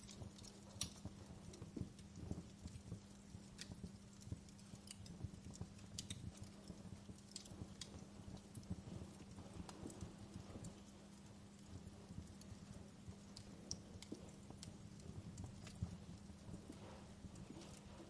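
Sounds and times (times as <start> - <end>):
faint low hum: 0.0 - 18.0
wood fire crackling: 0.0 - 18.0.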